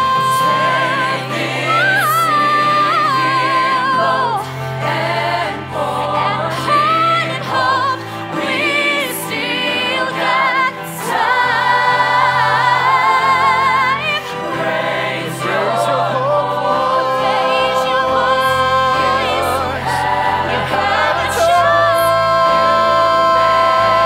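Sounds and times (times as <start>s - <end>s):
ensemble singing in harmony: 0.0s - 24.0s.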